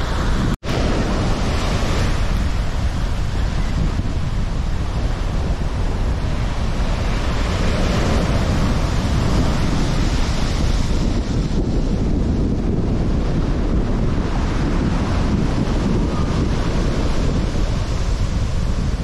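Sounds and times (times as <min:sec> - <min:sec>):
sea waves breaking on shore: 0:00.0 - 0:19.0
wind buffeting microphone: 0:00.0 - 0:19.0.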